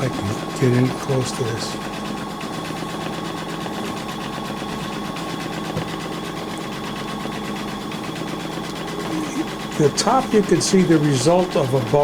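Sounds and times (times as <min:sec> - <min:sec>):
embroidery machine stitching: 0:00.0 - 0:12.0.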